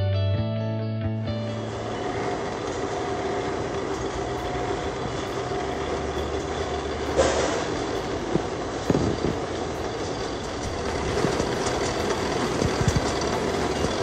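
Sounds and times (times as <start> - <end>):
machine clatter and hum: 1.4 - 14.0.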